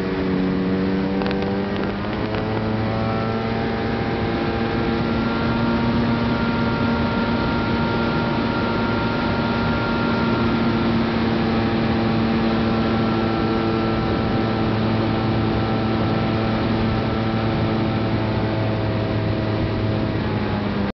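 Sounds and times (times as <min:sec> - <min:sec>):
boat engine droning: 0:00.0 - 0:20.9
water rushing: 0:03.5 - 0:20.8.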